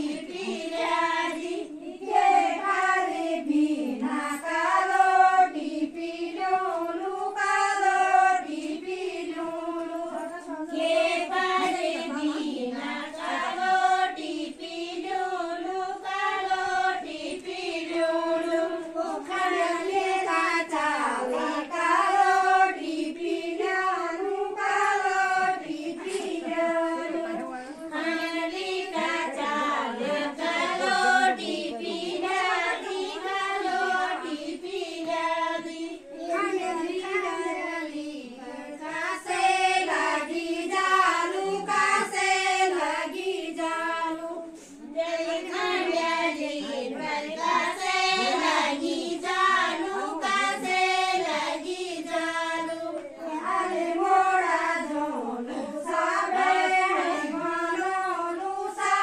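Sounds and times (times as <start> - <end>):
women singing together: 0.0 - 59.0.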